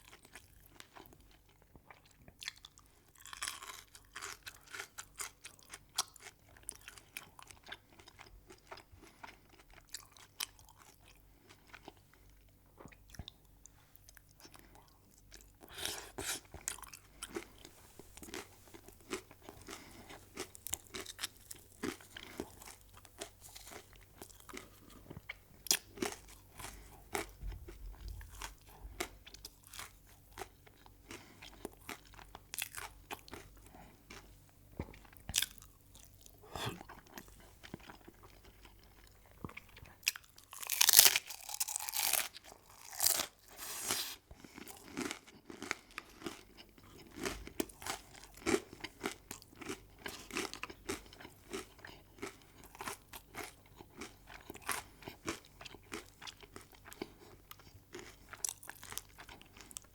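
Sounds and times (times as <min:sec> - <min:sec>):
chewing and crunching crisp food: 0:00.0 - 0:59.9.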